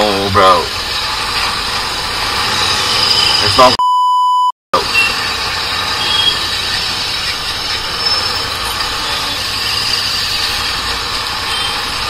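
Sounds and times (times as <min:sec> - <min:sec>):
road noise of traffic: 0:00.0 - 0:03.8, 0:04.7 - 0:12.0.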